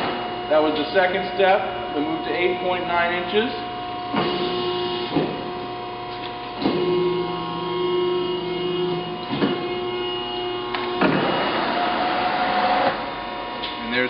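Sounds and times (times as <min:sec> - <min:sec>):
hydraulic pump humming: 0:00.0 - 0:14.0.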